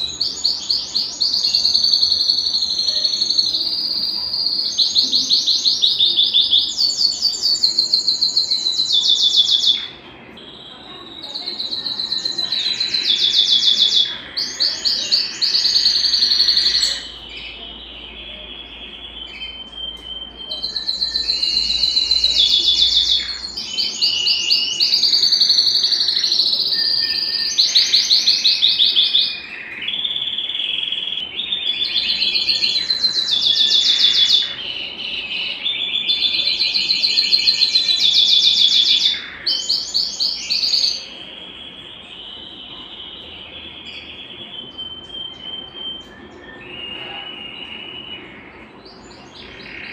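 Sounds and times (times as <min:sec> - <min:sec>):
canary trilling: 0:00.0 - 0:49.9.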